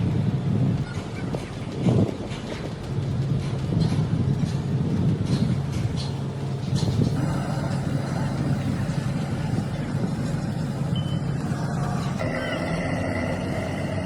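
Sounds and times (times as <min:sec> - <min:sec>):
heavy vehicle engine rumbling: 0:00.0 - 0:14.0.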